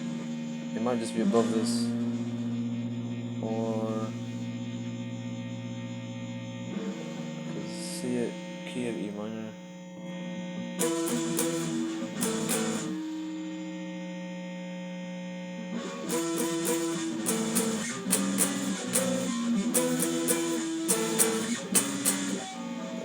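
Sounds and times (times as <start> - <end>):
electric guitar power chords: 0.0 - 14.4, 15.6 - 23.0.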